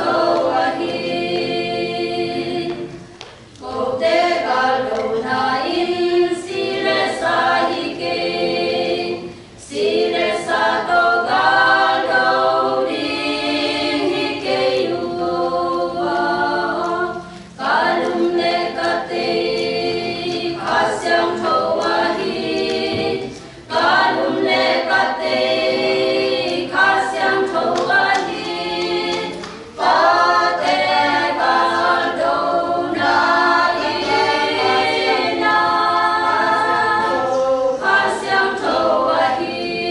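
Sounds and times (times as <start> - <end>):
women's choir singing a cappella: 0.0 - 39.9.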